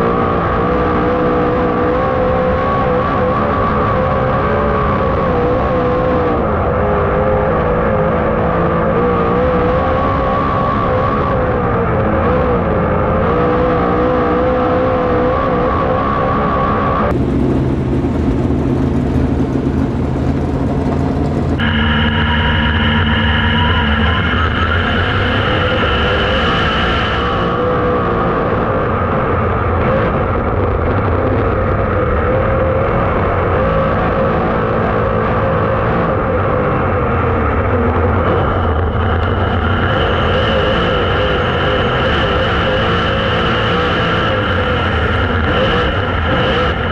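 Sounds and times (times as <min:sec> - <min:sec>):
high whine: 0:00.0 - 0:46.9
race car engines running: 0:00.0 - 0:46.9
steady engine tone: 0:00.0 - 0:46.9.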